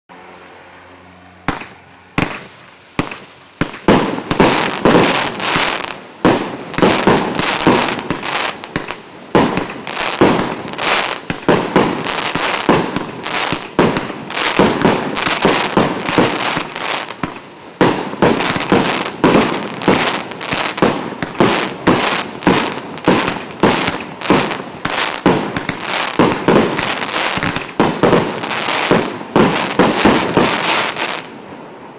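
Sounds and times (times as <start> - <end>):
crackling firework stars: 1.4 - 31.9
firework launches: 1.5 - 31.4.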